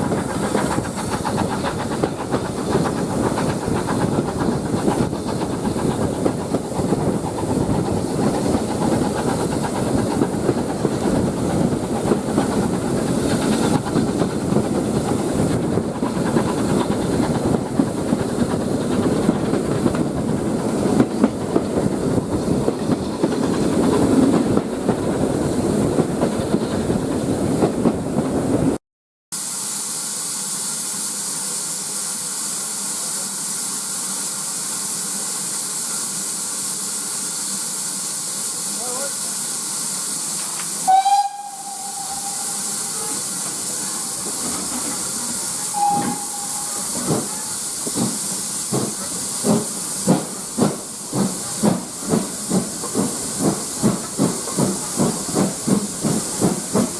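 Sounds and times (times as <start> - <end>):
steam hissing: 0.0 - 28.7, 29.4 - 56.9
steam train rumbling clatter: 0.0 - 28.8, 30.2 - 56.9.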